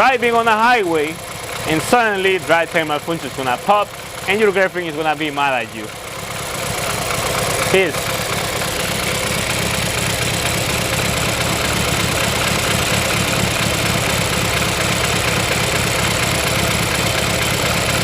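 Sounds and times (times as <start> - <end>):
car engine idling with misfire: 0.0 - 18.0.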